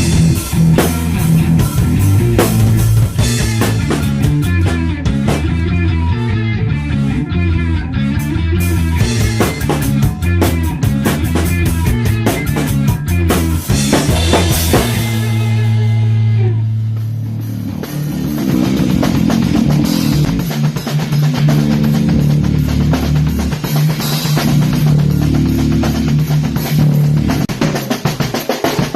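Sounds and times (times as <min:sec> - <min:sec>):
drum kit hitting hard: 0:00.0 - 0:05.7, 0:08.6 - 0:16.2, 0:16.8 - 0:28.9
electric guitar and bass riffing: 0:00.0 - 0:28.9.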